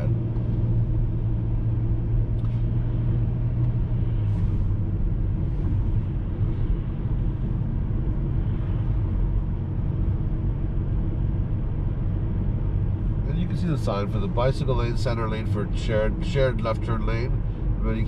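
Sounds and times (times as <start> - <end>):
low hum: 0.0 - 17.9
car cabin road noise: 0.0 - 18.0.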